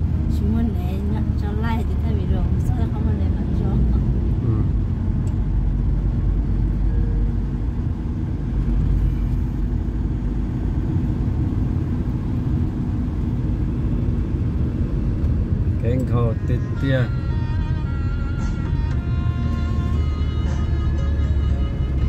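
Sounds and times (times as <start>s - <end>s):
vehicle engine and tyre rumble: 0.0s - 22.0s.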